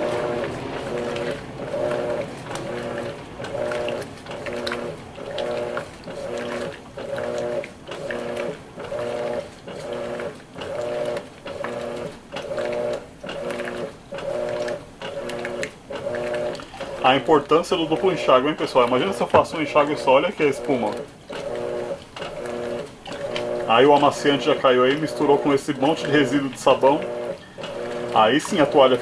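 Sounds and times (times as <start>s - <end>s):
washing machine motor pulsing hum: 0.0s - 29.0s.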